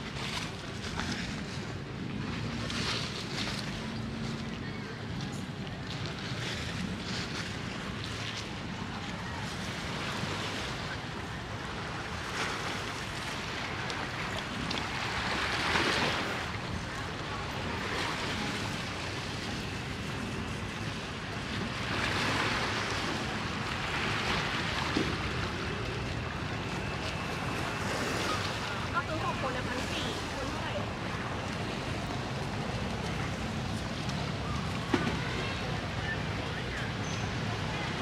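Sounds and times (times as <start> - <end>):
sea water washing against pier: 0.0 - 38.0.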